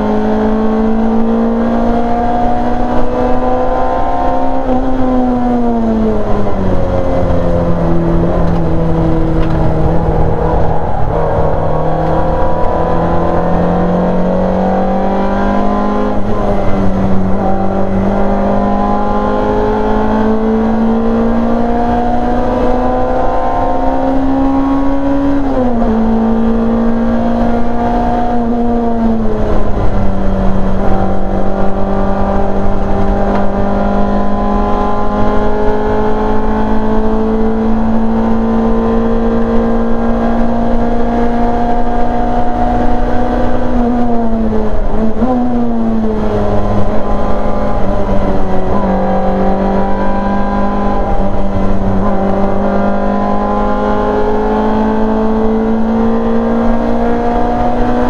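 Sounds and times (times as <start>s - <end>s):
gear changes: 0.0s - 58.0s
race car engine at high revs: 0.0s - 58.0s.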